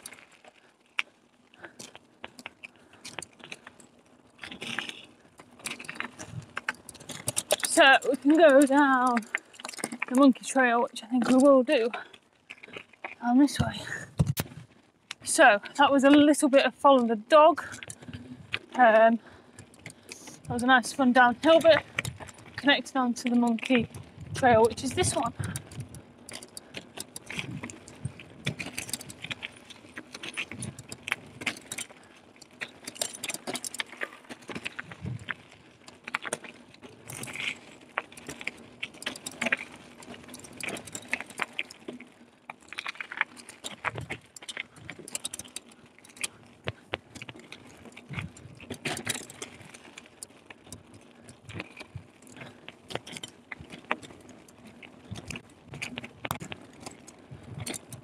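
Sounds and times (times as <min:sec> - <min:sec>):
mountain bike rattling: 0:00.0 - 0:58.0.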